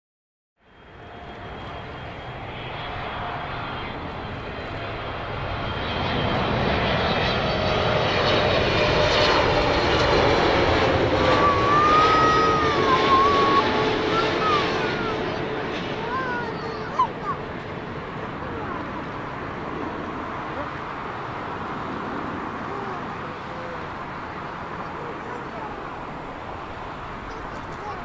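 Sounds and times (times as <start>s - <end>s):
jet airliner engine noise: 0.6s - 28.0s
falling whine: 0.9s - 27.9s.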